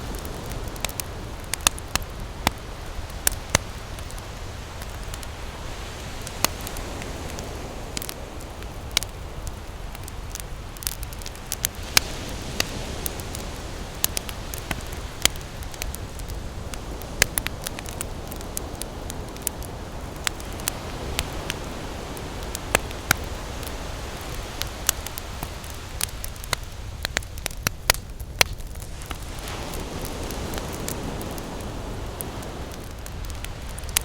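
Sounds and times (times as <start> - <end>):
ocean surf rushing: 0.0 - 27.0, 28.8 - 34.0
campfire crackling: 0.0 - 34.0.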